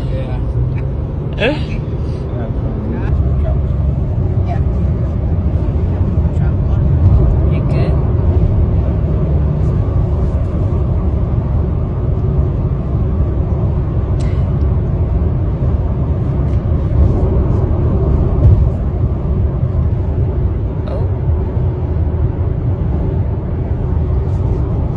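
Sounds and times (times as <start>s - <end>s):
car road noise rumble: 0.0s - 24.9s.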